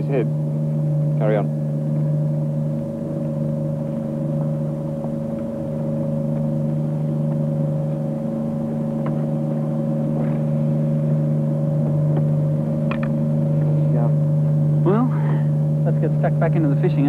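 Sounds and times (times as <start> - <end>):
boat engines droning: 0.0 - 17.0.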